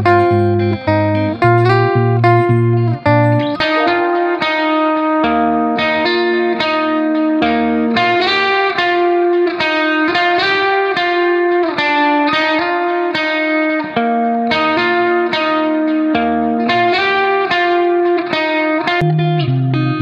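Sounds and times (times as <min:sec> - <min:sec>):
guitar plucking notes: 0:00.0 - 0:20.0.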